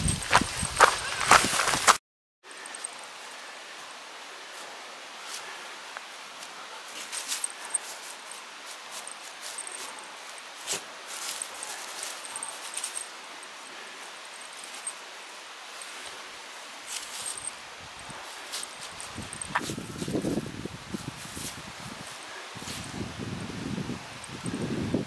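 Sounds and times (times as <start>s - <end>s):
crunching and rustling in snow: 0.0s - 2.0s, 4.5s - 15.0s, 15.8s - 25.0s
background hiss: 2.5s - 25.0s.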